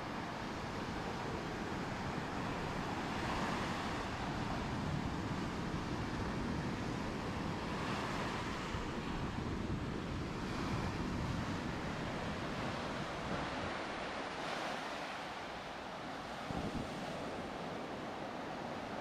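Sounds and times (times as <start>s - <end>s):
ocean surf washing: 0.0s - 19.0s
wind rumbling on microphone: 0.0s - 19.0s.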